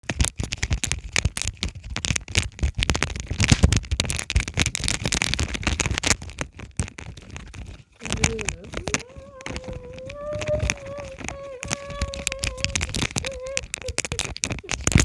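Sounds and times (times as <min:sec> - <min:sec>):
rapid irregular clicking and crackling: 0:00.0 - 0:15.0.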